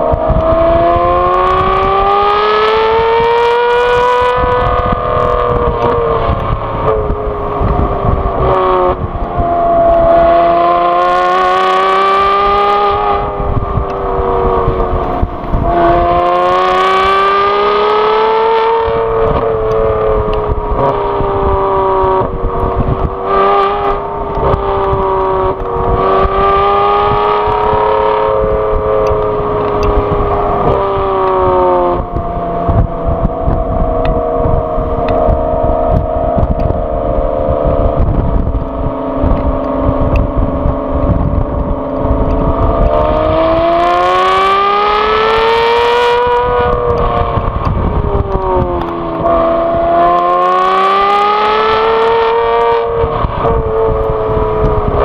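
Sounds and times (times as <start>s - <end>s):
car engine and exhaust accelerating: 0.0s - 55.0s.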